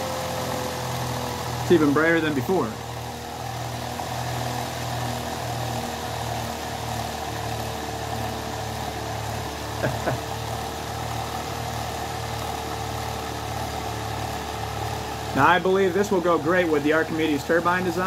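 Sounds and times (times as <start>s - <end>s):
small motor humming and whining: 0.0s - 18.0s.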